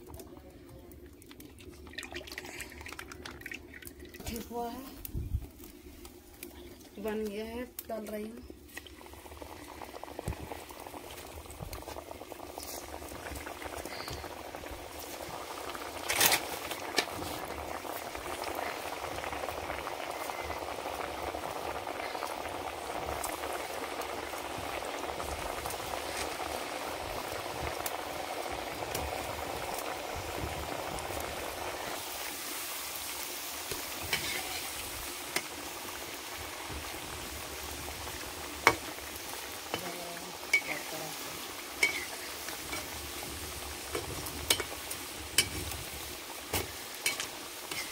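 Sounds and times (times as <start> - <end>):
dough deep-frying in oil: 0.0 - 47.9.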